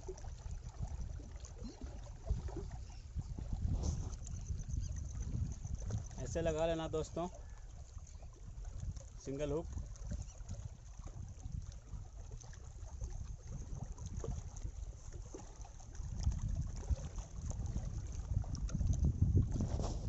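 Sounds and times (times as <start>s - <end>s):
water lapping at the shore: 0.0s - 20.0s
wind buffeting the microphone: 0.0s - 20.0s.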